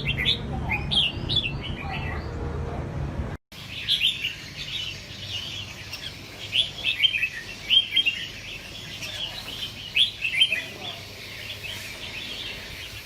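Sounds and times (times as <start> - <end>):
bird singing chirpy phrases: 0.0 - 2.5, 3.5 - 13.0.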